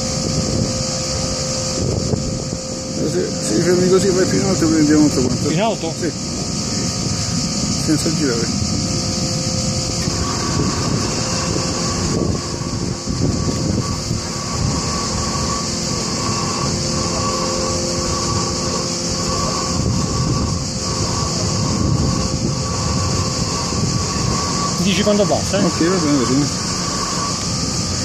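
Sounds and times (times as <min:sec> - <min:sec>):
helicopter running: 0:00.0 - 0:28.0.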